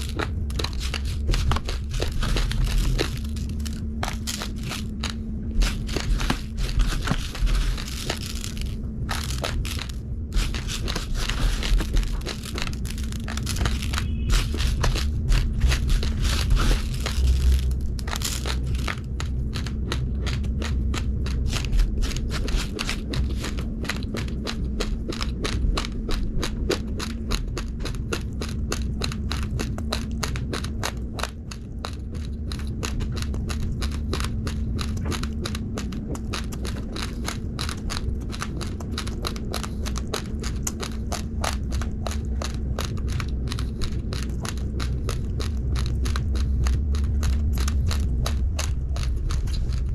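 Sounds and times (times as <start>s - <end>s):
rice grains crunched between teeth: 0.0s - 49.9s
steady low rumble: 0.0s - 49.9s.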